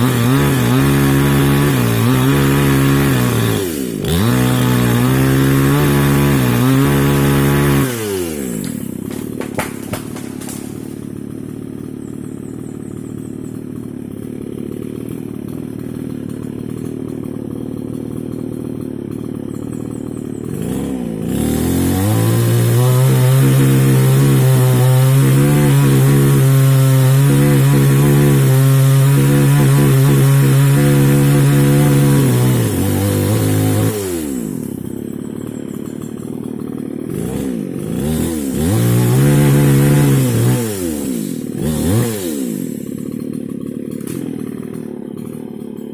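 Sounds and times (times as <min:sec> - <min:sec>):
mini chainsaw engine revving: 0:00.0 - 0:45.9.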